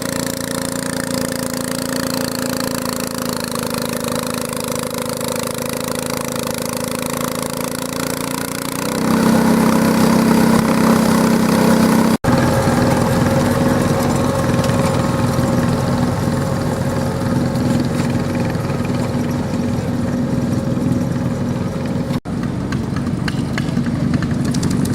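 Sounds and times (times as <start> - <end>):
tractor engine revving: 0.0 - 24.9.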